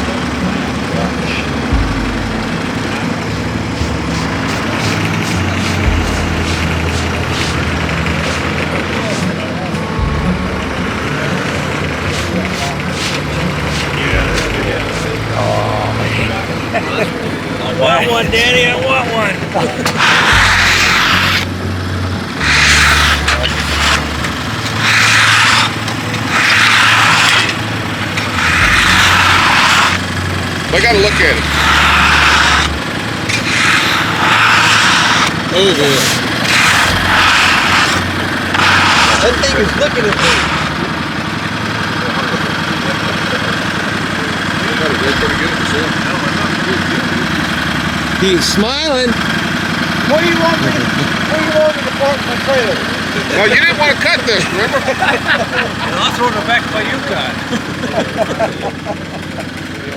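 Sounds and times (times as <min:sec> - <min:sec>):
saw cutting hiss: 0:00.0 - 0:59.8
sawmill engine droning: 0:00.0 - 0:59.9.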